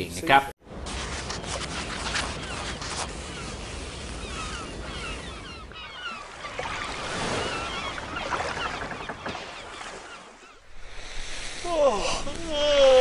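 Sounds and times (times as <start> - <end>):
sea surf washing: 1.8 - 13.0.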